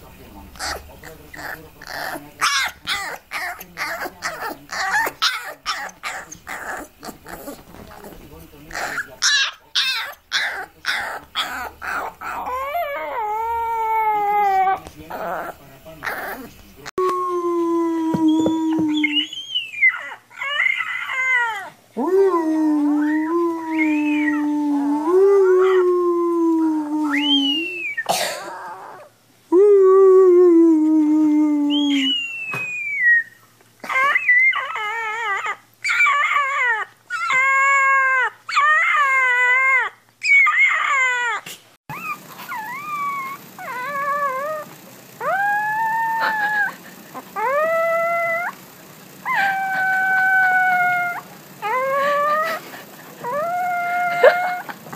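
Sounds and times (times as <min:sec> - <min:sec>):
puppies howling: 0:00.6 - 0:17.0, 0:18.4 - 0:21.8, 0:22.8 - 0:25.9, 0:31.7 - 0:54.8.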